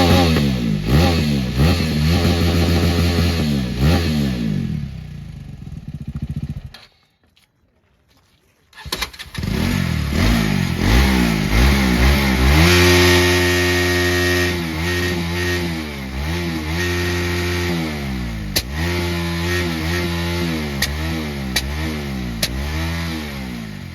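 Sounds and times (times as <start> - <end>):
motorcycle engine revving: 0.0 - 6.9, 8.8 - 23.9.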